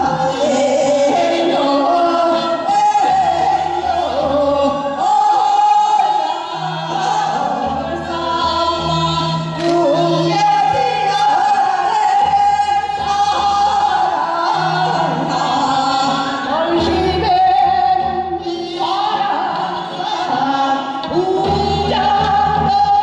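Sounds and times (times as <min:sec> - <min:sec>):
recorded accompaniment with bass: 0:00.0 - 0:23.0
women singing folk song: 0:00.0 - 0:23.0.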